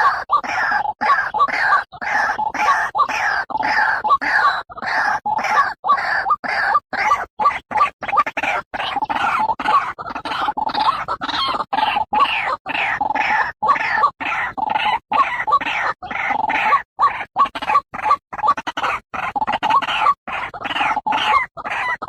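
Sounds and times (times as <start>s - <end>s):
waterhen calling repeated notes: 0.0s - 22.0s.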